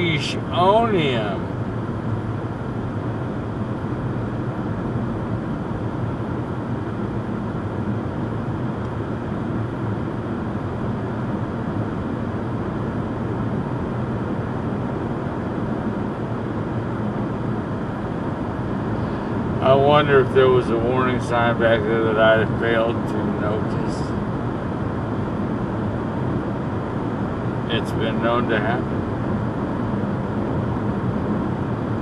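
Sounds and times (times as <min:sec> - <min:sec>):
engine hum: 0:00.0 - 0:32.0.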